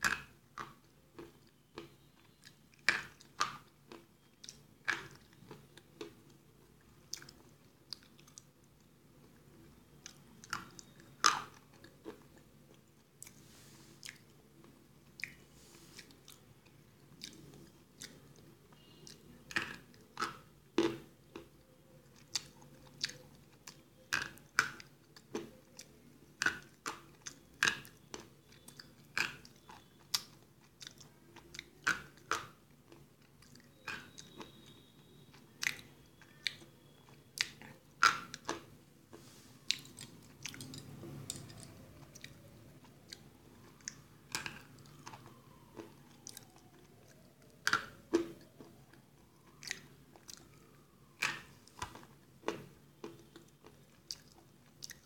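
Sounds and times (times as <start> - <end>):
soft chewing: 0.0 - 55.0.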